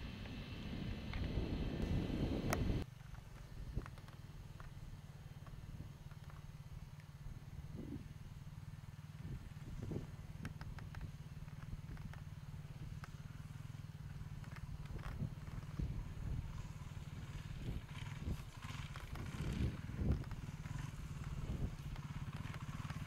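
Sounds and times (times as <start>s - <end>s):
motorcycle engine low rumble: 0.0s - 23.0s.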